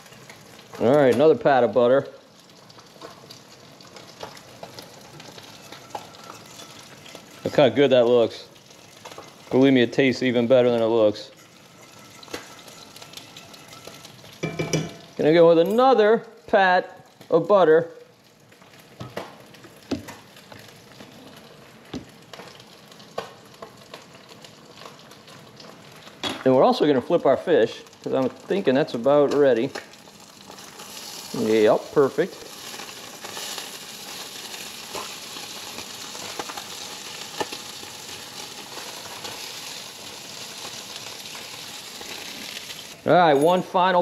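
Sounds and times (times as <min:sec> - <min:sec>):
fish frying: 0:00.0 - 0:44.0
sauce sizzling in a skillet: 0:00.0 - 0:44.0.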